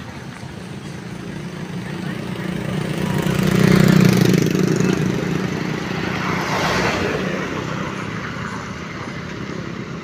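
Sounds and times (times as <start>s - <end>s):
passing road noise: 0.0s - 10.0s
vehicle engine hum: 0.0s - 10.0s.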